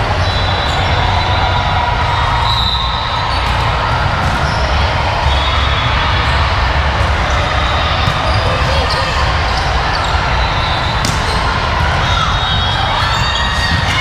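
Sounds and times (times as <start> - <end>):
busy sports hall din: 0.0 - 14.0.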